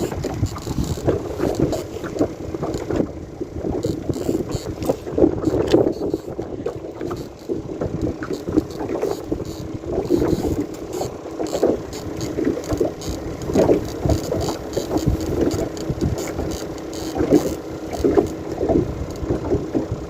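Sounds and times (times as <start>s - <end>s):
water splashing and sloshing: 0.0s - 20.0s
wind on microphone: 0.0s - 20.0s.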